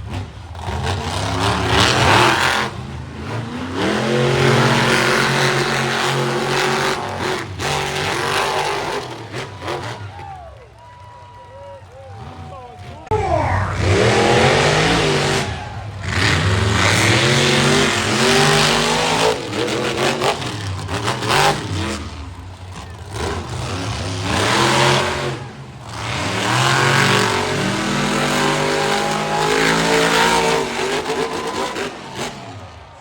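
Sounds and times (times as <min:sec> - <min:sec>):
truck engine revving hard: 0:00.0 - 0:10.0, 0:13.1 - 0:32.8.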